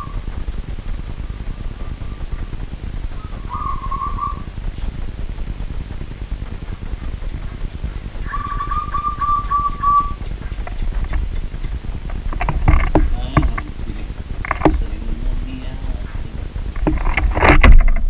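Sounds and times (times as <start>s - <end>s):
dove cooing: 0.0s - 5.2s, 6.3s - 17.0s
low rumble: 0.0s - 18.0s
sharp clicks: 0.0s - 18.0s.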